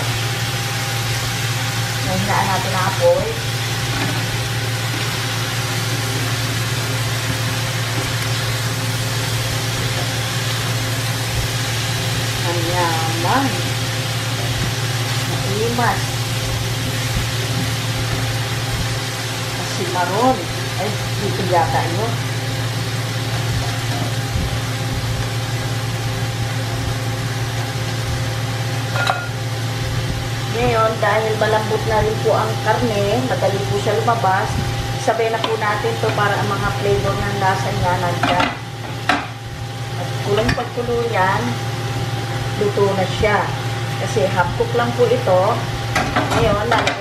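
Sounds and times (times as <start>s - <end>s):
constant low hum: 0.0s - 47.0s
food sizzling in a pan: 0.0s - 47.0s.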